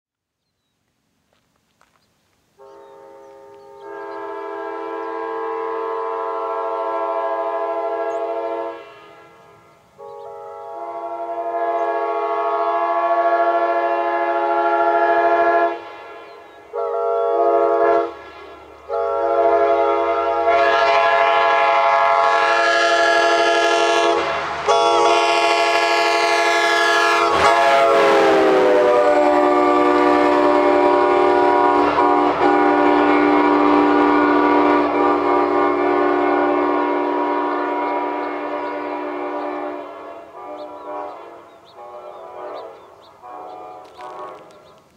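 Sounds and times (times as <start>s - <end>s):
locomotive horn blasts: 2.6s - 44.7s
train rumble: 2.6s - 44.9s.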